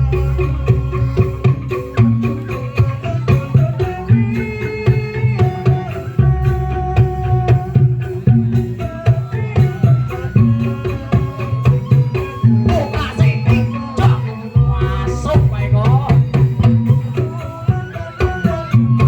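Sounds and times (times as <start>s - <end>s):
hand-drum beat: 0.0s - 19.0s.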